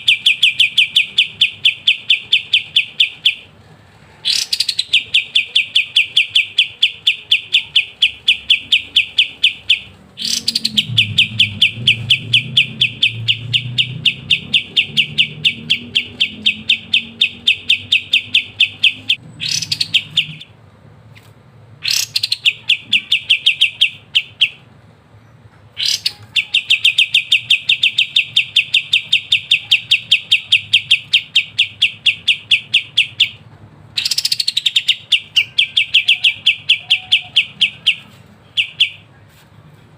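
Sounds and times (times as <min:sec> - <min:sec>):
songbird singing rapid chirps: 0:00.0 - 0:03.6, 0:04.2 - 0:20.7, 0:21.7 - 0:39.9.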